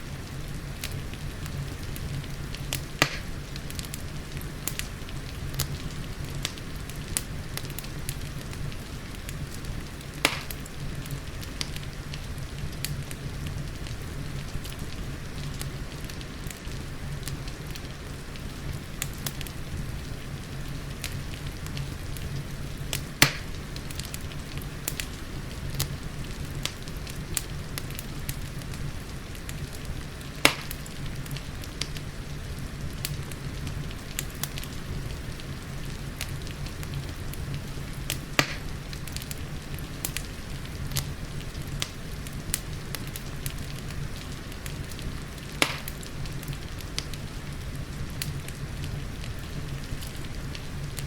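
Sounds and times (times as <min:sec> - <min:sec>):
fireplace crackling and popping: 0:00.0 - 0:51.0
steady rain hiss: 0:00.0 - 0:51.0.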